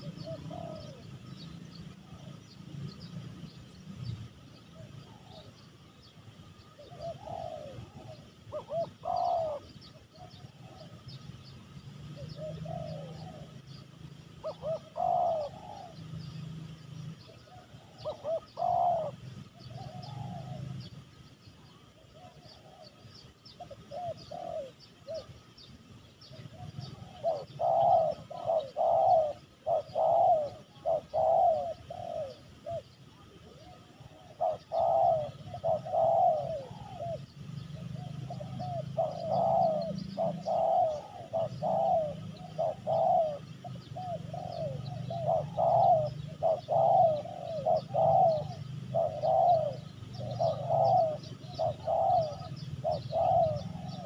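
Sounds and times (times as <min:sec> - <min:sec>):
doves cooing: 0:00.0 - 0:25.6, 0:26.3 - 0:54.0.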